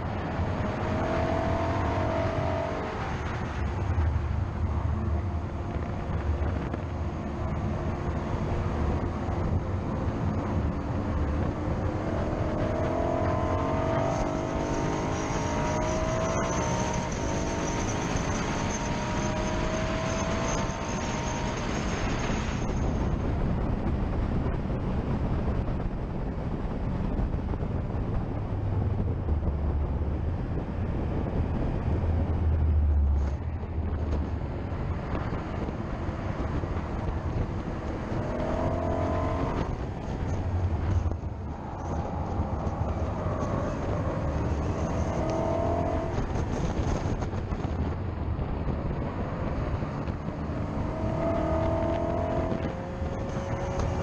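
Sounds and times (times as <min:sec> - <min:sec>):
car engine at full throttle: 0:00.0 - 0:54.0
road noise: 0:00.0 - 0:54.0
wind rush: 0:00.0 - 0:54.0.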